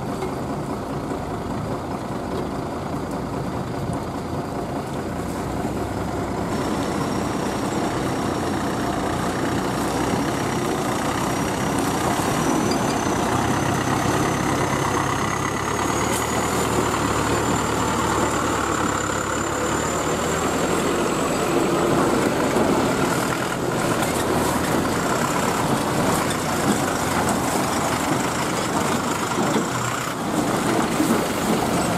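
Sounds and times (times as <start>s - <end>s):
diesel truck engines humming: 0.0s - 31.9s.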